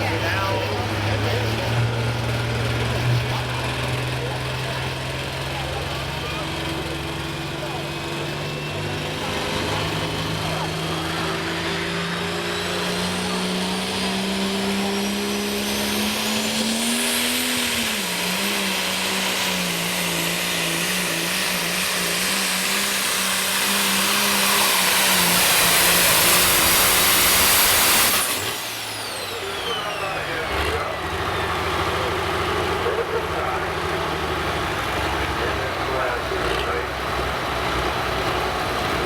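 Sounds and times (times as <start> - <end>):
diesel tractor engine at full throttle: 0.0 - 39.0
high turbo whine: 0.0 - 39.0.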